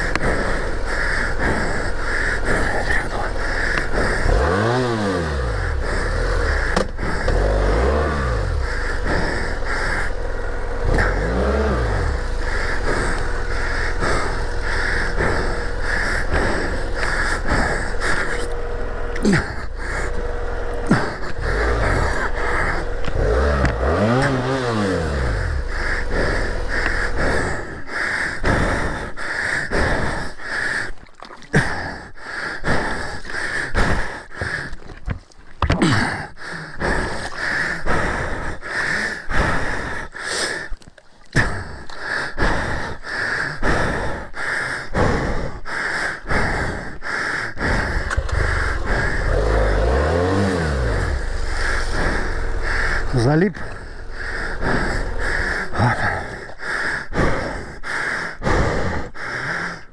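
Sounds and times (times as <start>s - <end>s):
motorcycle engine revving: 0.0s - 30.6s, 35.8s - 40.1s, 41.4s - 59.2s
rustling and breathing: 0.0s - 59.9s.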